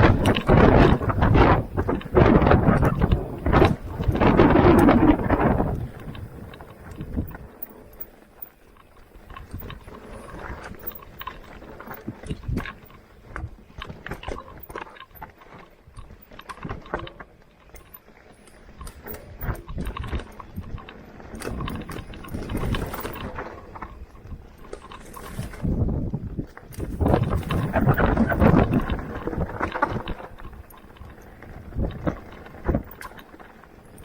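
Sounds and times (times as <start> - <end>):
wind on microphone: 0.0 - 7.8, 9.2 - 14.6, 18.7 - 34.0
bike rattling over bumps: 0.0 - 34.0.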